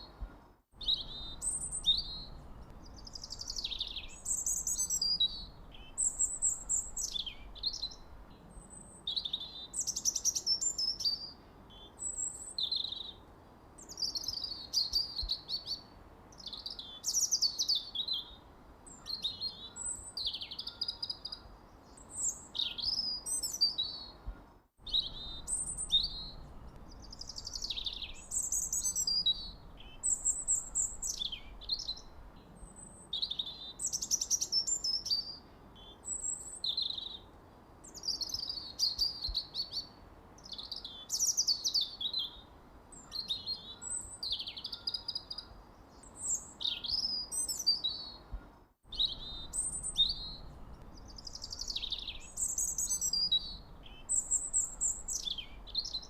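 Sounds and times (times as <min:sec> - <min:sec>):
songbirds chirping and singing: 0:00.0 - 0:13.2, 0:13.8 - 0:37.3, 0:37.9 - 0:56.0.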